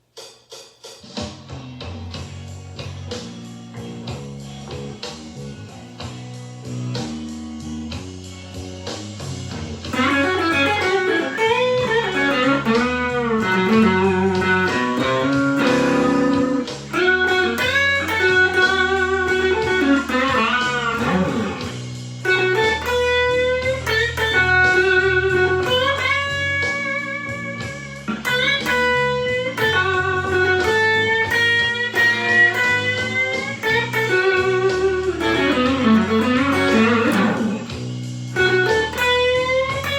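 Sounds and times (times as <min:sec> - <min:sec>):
backing track of bass and drums: 0:00.0 - 0:39.9
overdriven electric guitar blues lead: 0:02.1 - 0:39.9.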